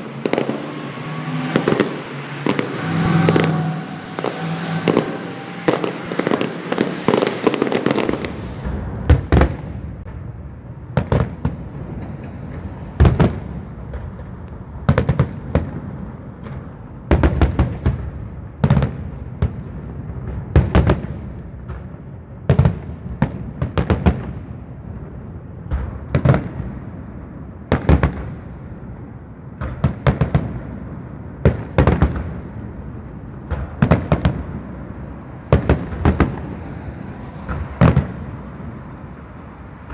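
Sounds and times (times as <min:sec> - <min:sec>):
fireworks bangs: 0:00.0 - 0:39.9
traffic noise: 0:00.0 - 0:39.9.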